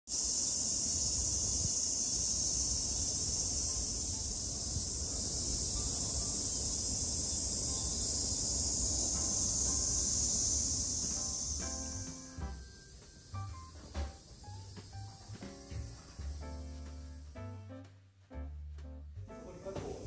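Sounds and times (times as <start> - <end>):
cicadas droning: 0.1 - 17.4.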